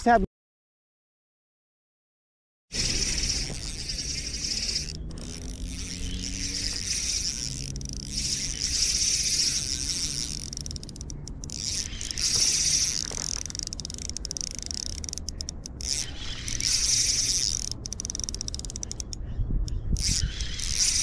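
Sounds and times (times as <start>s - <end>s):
fishing reel gears whirring: 2.7s - 21.0s.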